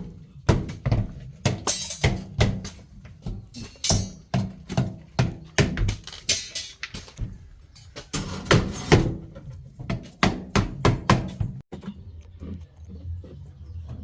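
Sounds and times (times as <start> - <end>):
hand tools knocking hard material: 0.0 - 11.7.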